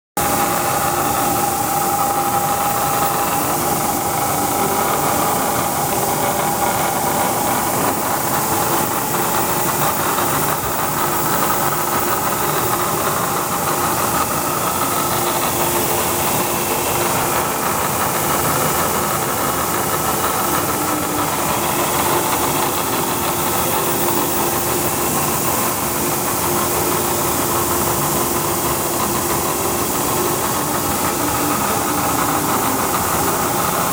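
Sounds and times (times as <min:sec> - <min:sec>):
milling machine running: 0:00.2 - 0:33.9.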